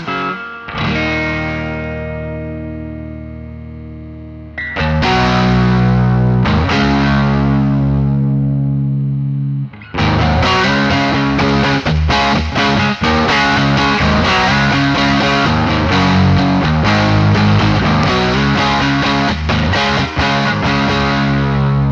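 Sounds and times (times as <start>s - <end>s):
overdriven electric guitar chords: 0.0s - 21.9s.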